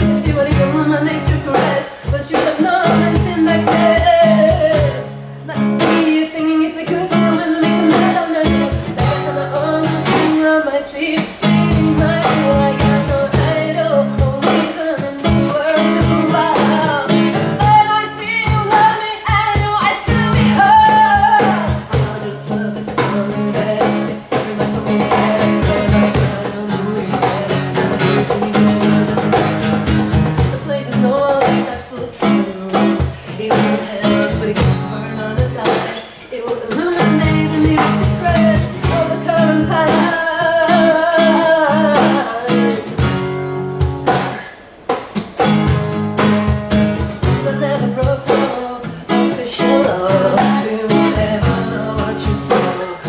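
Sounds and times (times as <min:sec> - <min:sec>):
woman singing: 0:00.0 - 0:43.4, 0:46.2 - 0:53.0
cajon beats: 0:00.0 - 0:53.0
strummed acoustic guitar: 0:00.0 - 0:53.0.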